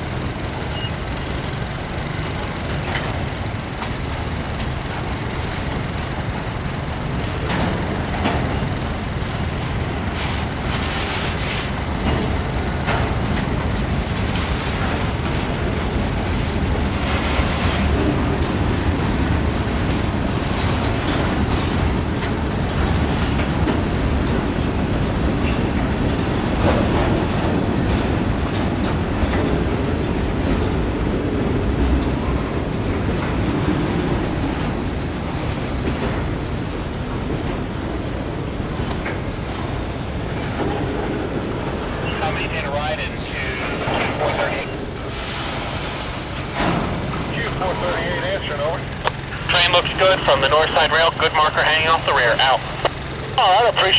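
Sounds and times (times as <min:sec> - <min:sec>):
wheels clacking over rail joints: 0:00.0 - 0:42.7, 0:43.4 - 0:53.8
train wheels rumbling on rail: 0:00.0 - 0:53.9.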